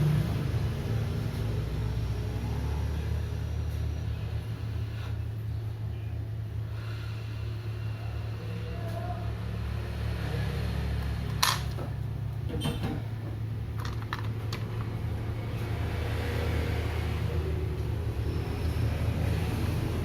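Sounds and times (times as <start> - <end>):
low hum of bench equipment: 0.0 - 20.0.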